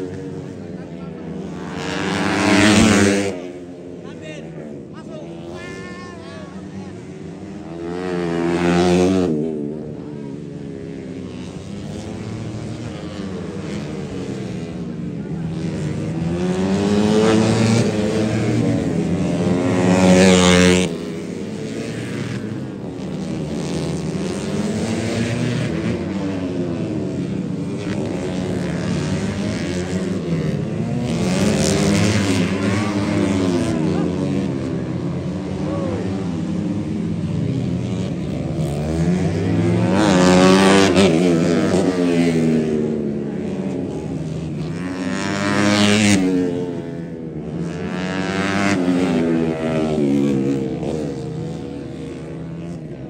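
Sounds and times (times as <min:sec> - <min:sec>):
motorcycle engines revving: 0:00.0 - 0:53.0
motorcycles passing close: 0:00.0 - 0:53.0.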